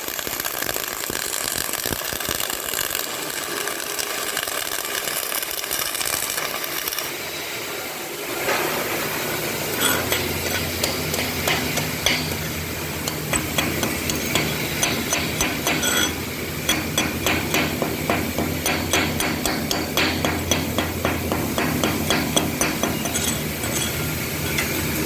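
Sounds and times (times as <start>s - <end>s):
arc welding crackle: 0.0s - 25.0s
welding machine hum: 0.0s - 25.0s.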